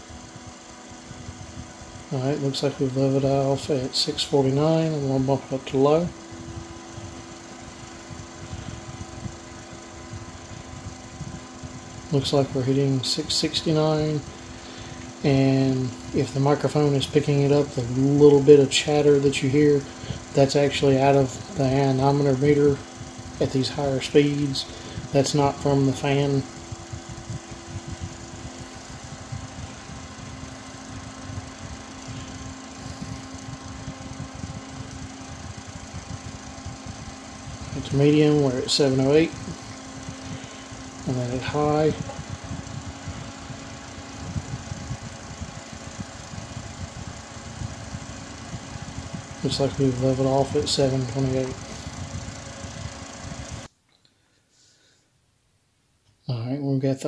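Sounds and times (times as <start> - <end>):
computer fan whirring: 0.0 - 57.0
faint hum tones: 0.0 - 57.0
anemometer chattering: 1.6 - 53.7.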